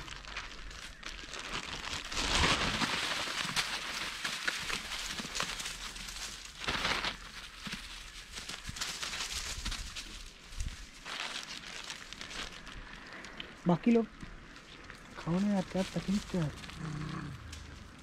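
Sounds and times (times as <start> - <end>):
dry rustling and crinkling: 0.0 - 18.0.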